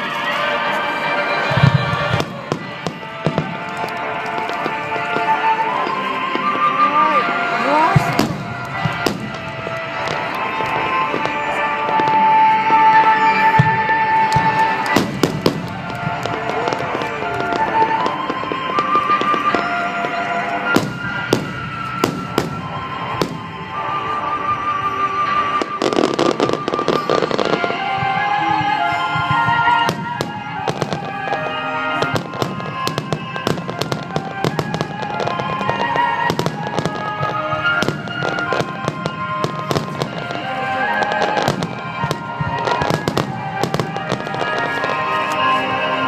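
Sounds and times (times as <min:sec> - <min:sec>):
fireworks bursting: 0:00.0 - 0:46.0
music with sustained melody: 0:00.0 - 0:46.0.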